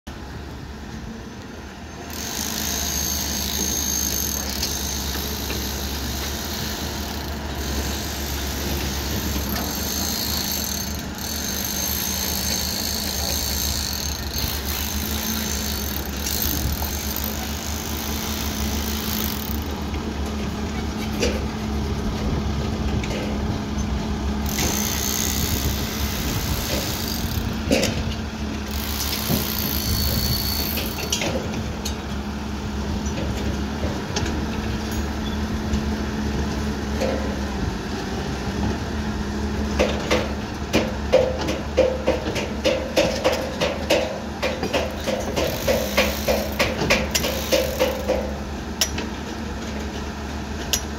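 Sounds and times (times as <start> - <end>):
diesel engines running under load: 0.1 - 50.9.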